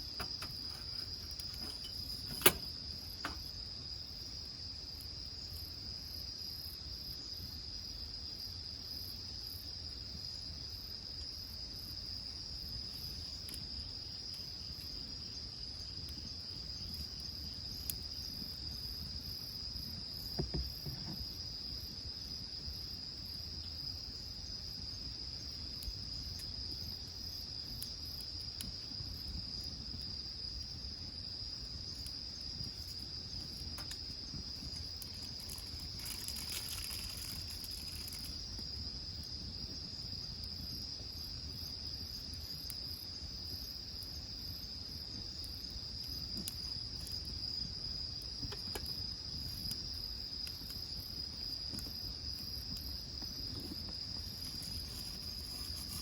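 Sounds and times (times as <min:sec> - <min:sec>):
faint wood fire crackles: 0:00.0 - 0:56.0
insects trilling: 0:00.0 - 0:56.0.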